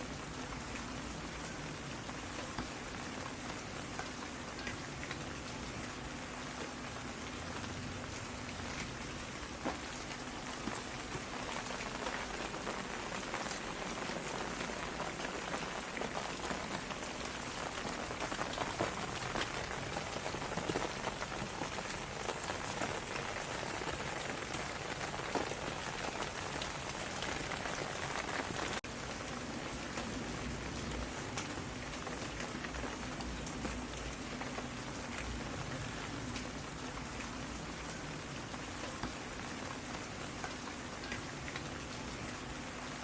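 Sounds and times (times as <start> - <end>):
rain falling on a surface: 0.0 - 43.0.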